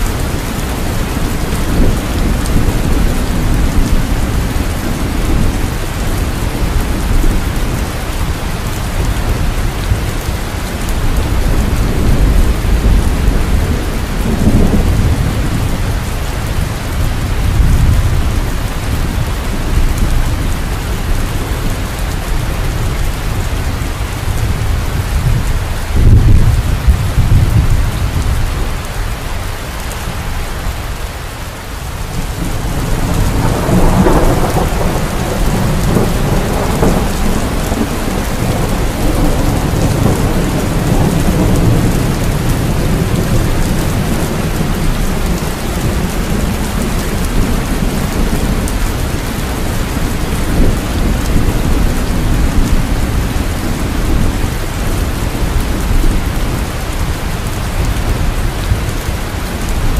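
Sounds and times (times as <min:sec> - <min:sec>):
thunder rumbling: 0:00.0 - 0:31.0, 0:31.7 - 0:59.9
steady rain: 0:00.0 - 0:59.9.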